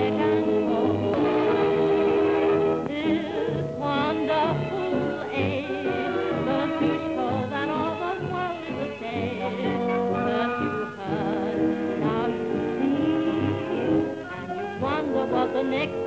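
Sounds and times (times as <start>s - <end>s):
person singing with vibrato: 0.0s - 16.0s.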